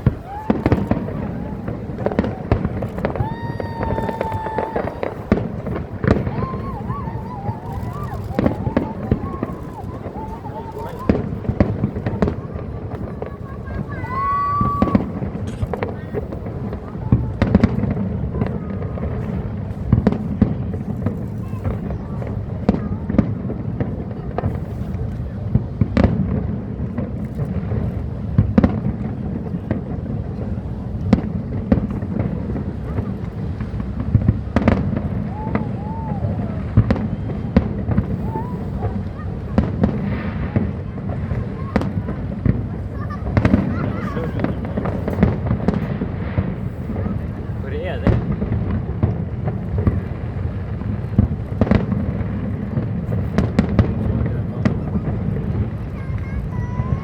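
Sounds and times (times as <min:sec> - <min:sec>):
fireworks booming: 0:00.0 - 0:57.0
sharp firework cracks: 0:00.0 - 0:57.0.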